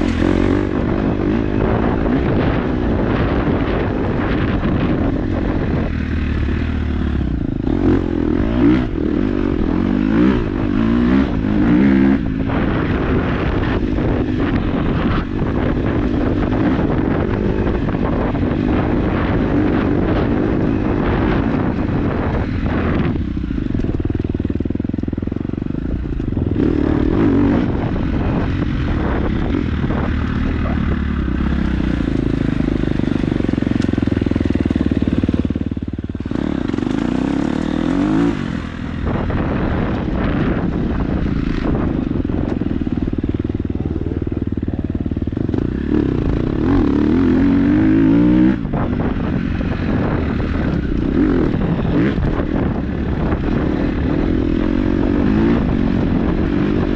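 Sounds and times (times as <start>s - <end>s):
dirt bike engine revving: 0.0s - 5.0s, 5.7s - 23.2s, 25.8s - 44.4s, 45.3s - 56.9s.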